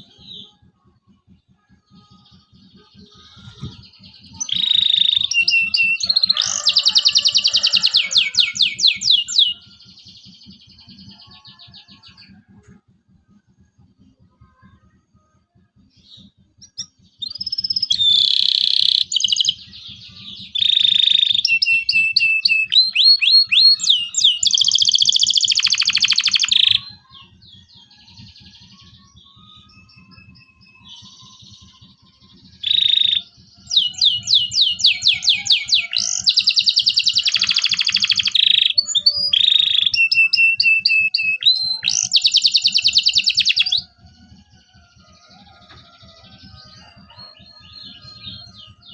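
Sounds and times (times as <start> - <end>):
canary singing trills: 1.9 - 12.4, 16.0 - 48.9.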